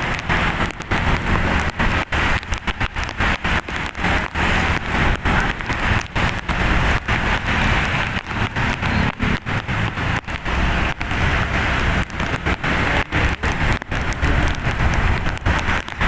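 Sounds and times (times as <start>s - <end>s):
road vehicle rushing hiss: 0.0s - 16.0s.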